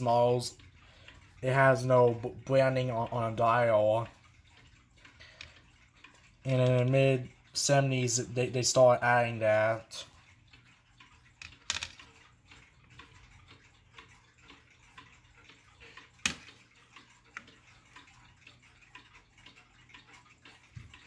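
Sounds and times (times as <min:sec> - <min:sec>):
clock ticking: 0:00.0 - 0:21.0
sharp clock clicks: 0:00.0 - 0:21.0.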